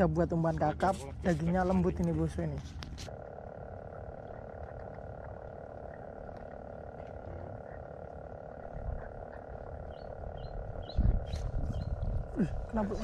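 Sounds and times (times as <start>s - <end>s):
frogs calling: 0.0s - 13.0s.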